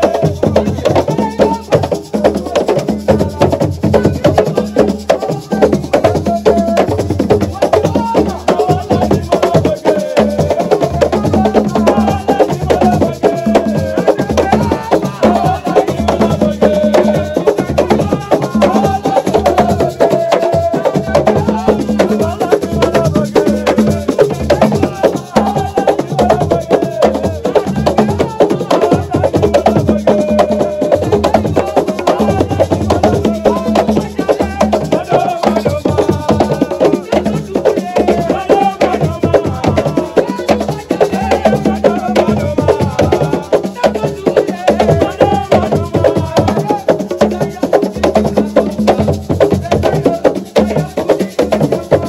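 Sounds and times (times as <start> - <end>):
fast drumming: 0.0 - 52.0
wood-block-like strikes: 0.0 - 52.0.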